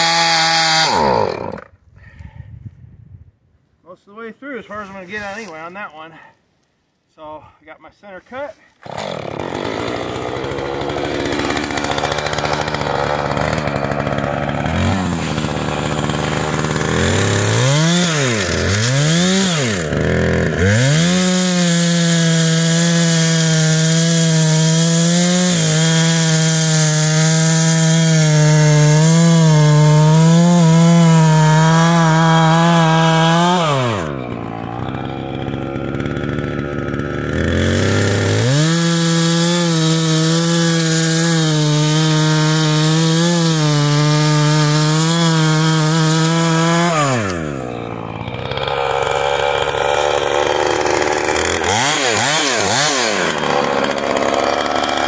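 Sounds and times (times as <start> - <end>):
chainsaw cutting log: 0.0 - 1.8, 8.8 - 55.0.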